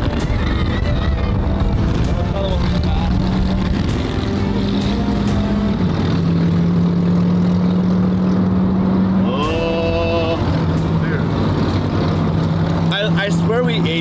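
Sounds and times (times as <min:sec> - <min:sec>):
rising pitched tone: 0:00.0 - 0:13.0
car engine droning: 0:00.0 - 0:14.0.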